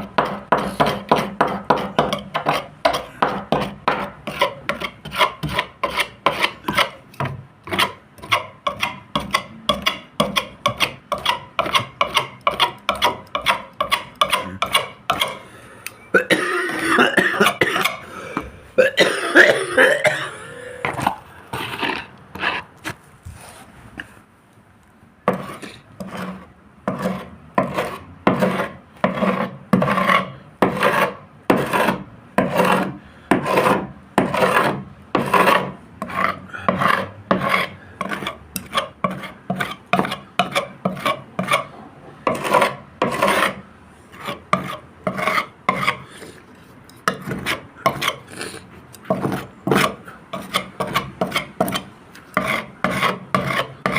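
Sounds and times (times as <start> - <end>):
hand sanding rasping strokes: 0.0 - 7.1, 7.7 - 15.4, 21.1 - 23.8, 25.3 - 41.7, 42.3 - 53.9.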